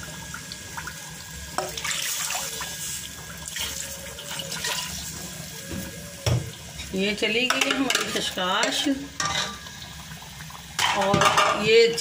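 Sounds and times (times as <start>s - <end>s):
masala frying: 0.0s - 12.0s.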